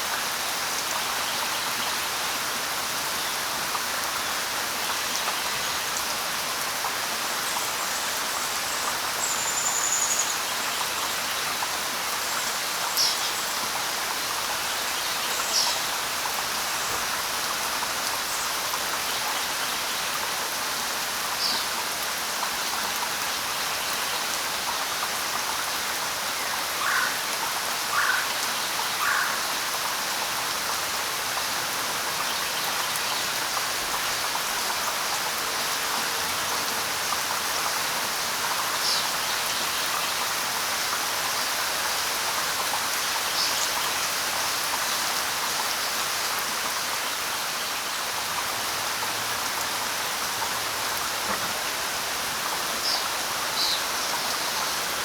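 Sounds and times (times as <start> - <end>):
light rain on leaves: 0.0 - 55.0.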